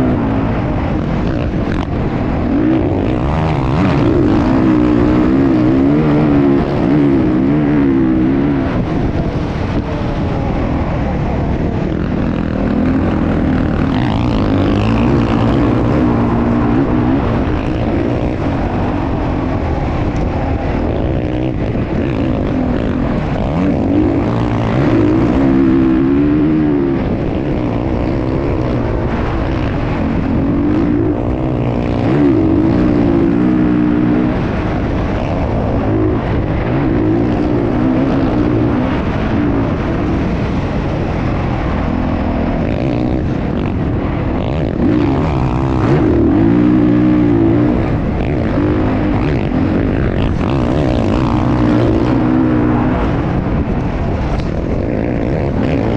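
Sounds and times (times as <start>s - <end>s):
motocross engine revving: 0.0s - 55.9s.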